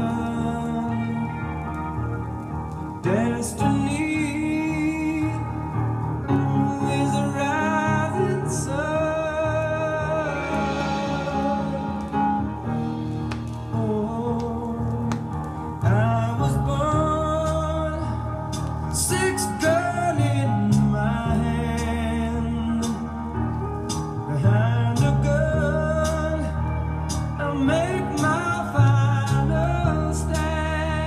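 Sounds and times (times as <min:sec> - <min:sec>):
song with singing and guitar: 0:00.0 - 0:31.0.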